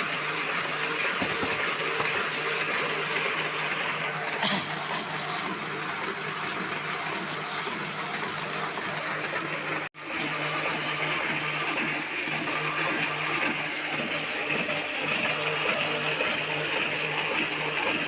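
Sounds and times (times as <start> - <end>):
printing press hum and clatter: 0.0 - 18.0.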